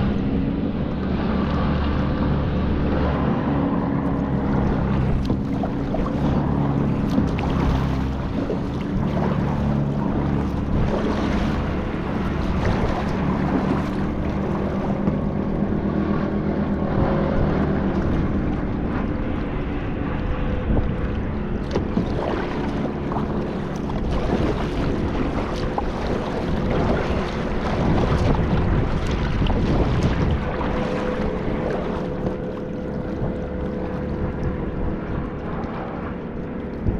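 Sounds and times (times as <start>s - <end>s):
low hum of kayak drive: 0.0s - 36.9s
water noise: 0.0s - 36.9s
wind noise on microphone: 0.0s - 36.9s.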